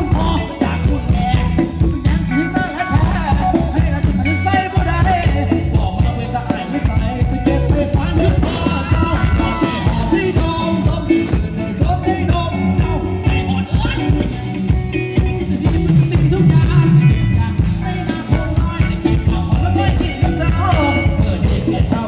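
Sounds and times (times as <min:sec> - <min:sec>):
live band music over loudspeaker: 0:00.0 - 0:22.0
person singing: 0:00.0 - 0:22.0.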